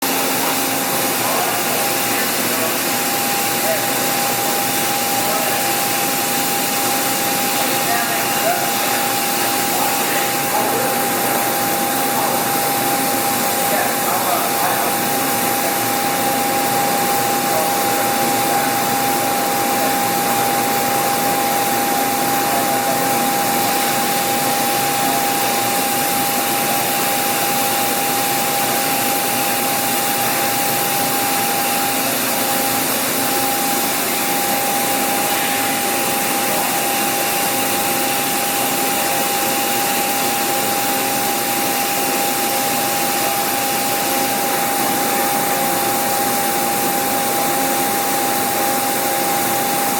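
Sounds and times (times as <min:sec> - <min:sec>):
machinery hiss with whine: 0:00.1 - 0:49.9.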